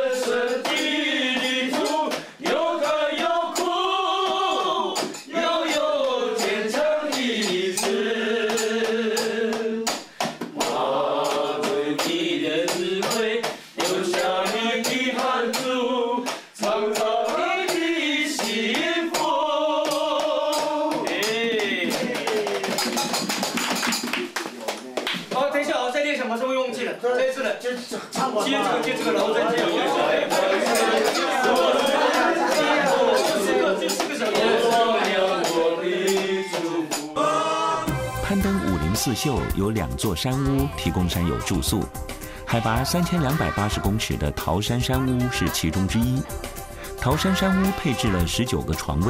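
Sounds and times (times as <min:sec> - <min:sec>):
group of people singing: 0:00.0 - 0:23.3, 0:27.9 - 0:49.0.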